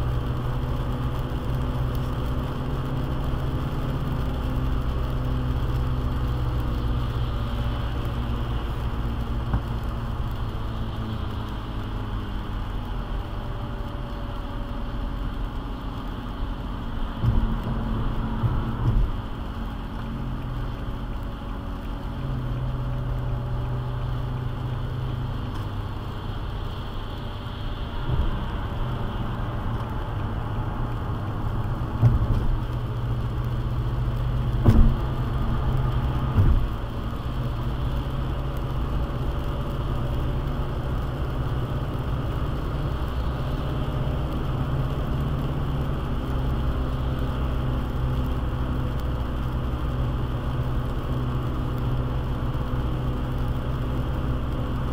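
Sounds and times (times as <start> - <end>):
low engine hum: 0.0 - 54.9
tyre hiss on wet road: 0.0 - 54.9.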